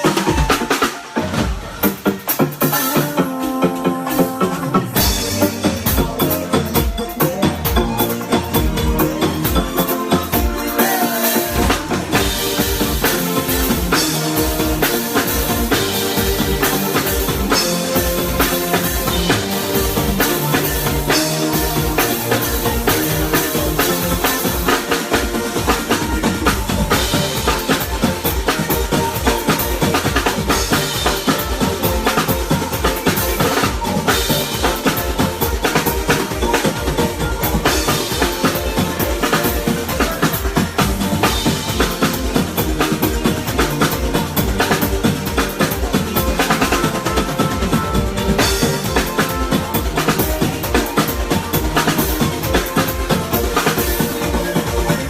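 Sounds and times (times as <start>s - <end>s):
drum kit beat: 0.0s - 55.0s
sustained pitched instruments: 1.0s - 55.0s.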